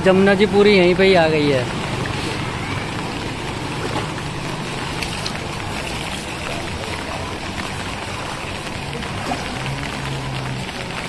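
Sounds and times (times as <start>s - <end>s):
floodwater rushing along street: 0.0s - 11.0s.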